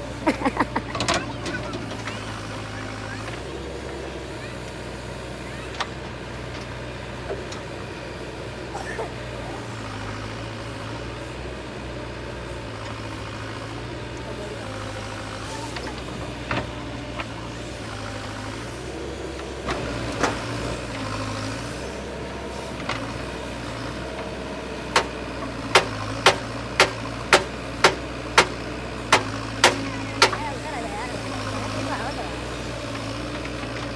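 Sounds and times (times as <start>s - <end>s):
low engine hum: 0.0s - 33.9s.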